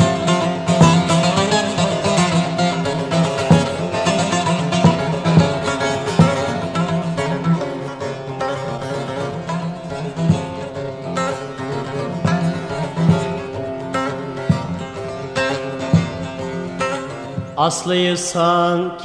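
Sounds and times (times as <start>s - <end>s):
plucked string instrument melody: 0.0s - 18.1s.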